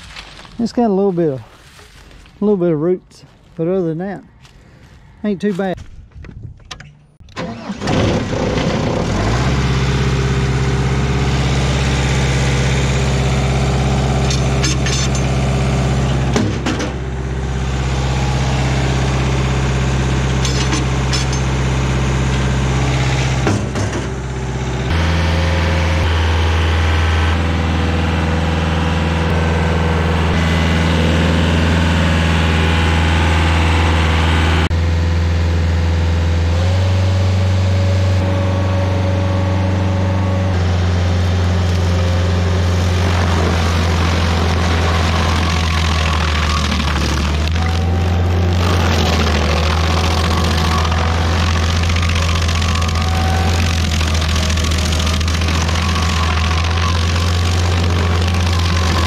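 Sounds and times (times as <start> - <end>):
stump grinder engine running: 7.3 - 59.0.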